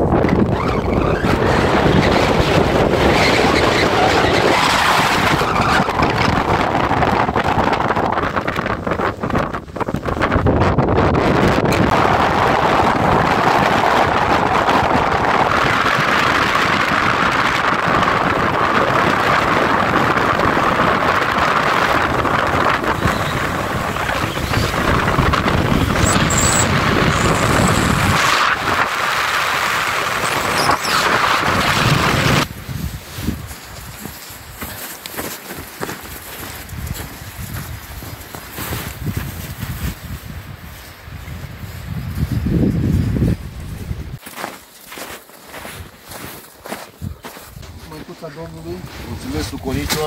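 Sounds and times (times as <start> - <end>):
strong wind on microphone: 0.0 - 44.6, 45.6 - 50.0.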